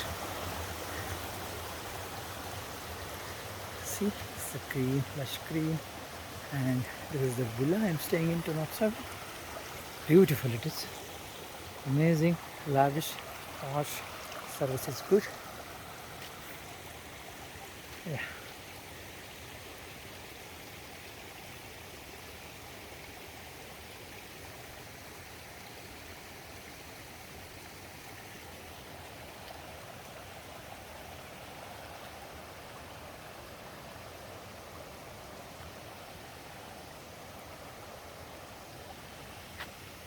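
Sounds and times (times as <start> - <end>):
mountain stream flowing: 0.0 - 40.0.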